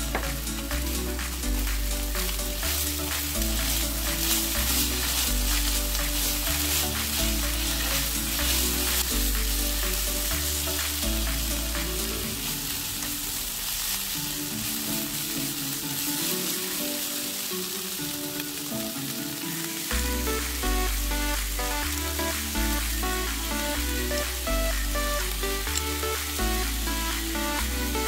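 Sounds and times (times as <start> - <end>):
background music: 0.0 - 28.0
chopsticks stirring in a pan: 0.0 - 28.0
food sizzling in a pan: 0.0 - 28.0.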